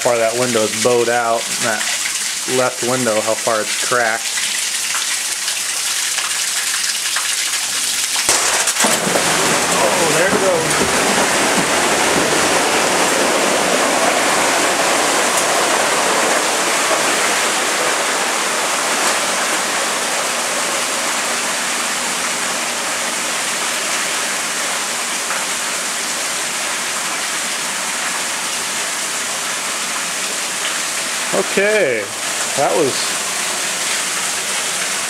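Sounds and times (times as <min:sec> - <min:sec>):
floodwater pouring and splashing: 0:00.0 - 0:35.0.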